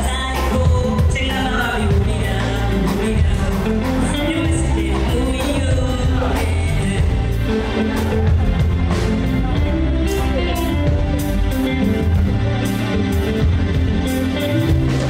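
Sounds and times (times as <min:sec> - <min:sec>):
bass line: 0:00.0 - 0:15.0
drum kit beat: 0:00.0 - 0:15.0
person singing: 0:00.0 - 0:15.0.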